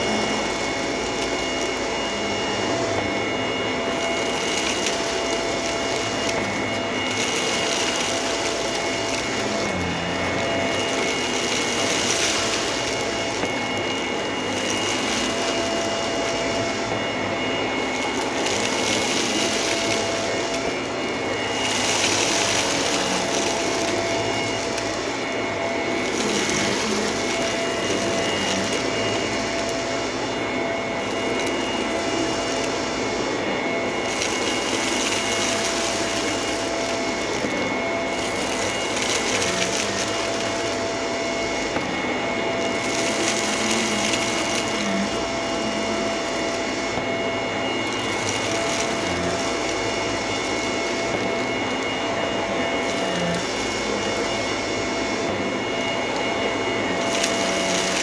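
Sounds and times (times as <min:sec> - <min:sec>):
debris crunching in vacuum: 0:00.0 - 0:58.0
vacuum cleaner running on carpet: 0:00.0 - 0:58.0.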